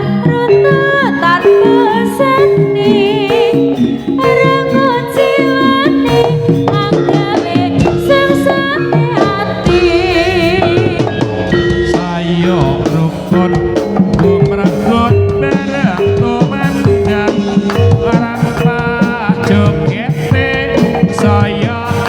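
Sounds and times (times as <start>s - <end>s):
drums and percussion beating: 0.0s - 22.0s
wavering melody: 0.0s - 22.0s.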